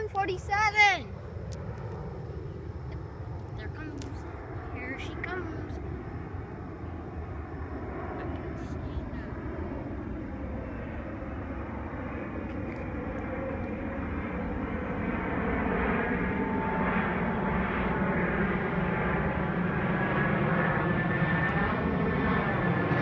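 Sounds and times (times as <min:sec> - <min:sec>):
jet engines rumbling with whine: 0:00.0 - 0:23.0.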